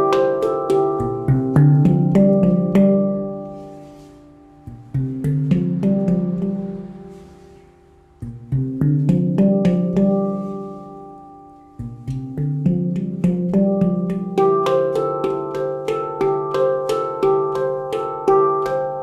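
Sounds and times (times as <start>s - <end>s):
handpan notes played by hand: 0.0s - 19.0s.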